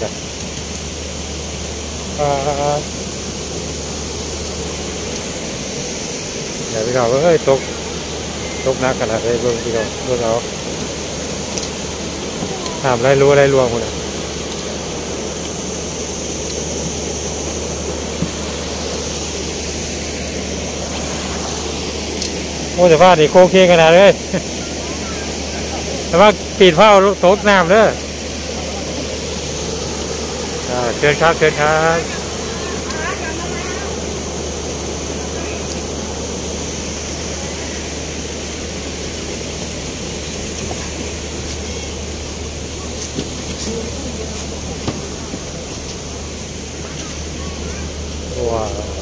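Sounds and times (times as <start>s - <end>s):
heavy rain pouring: 0.0s - 49.0s
steady low hum: 0.0s - 49.0s.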